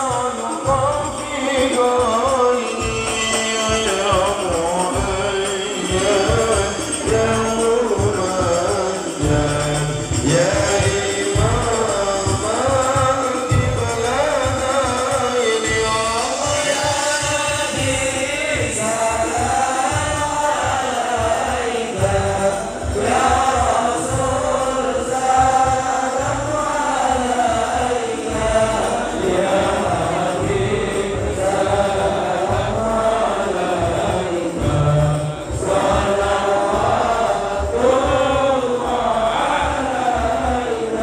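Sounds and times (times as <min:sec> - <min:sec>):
congregation chanting devotional song: 0:00.0 - 0:41.0.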